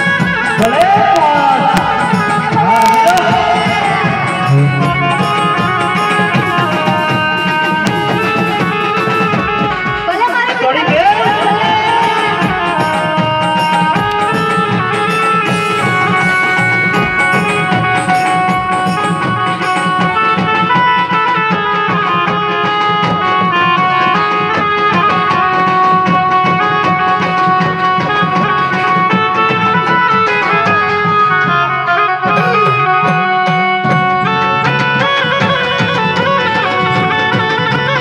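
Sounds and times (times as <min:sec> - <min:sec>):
barrel drums beating: 0:00.0 - 0:38.0
keyboard melody: 0:00.0 - 0:38.0
live band playing folk dance music: 0:00.0 - 0:38.0.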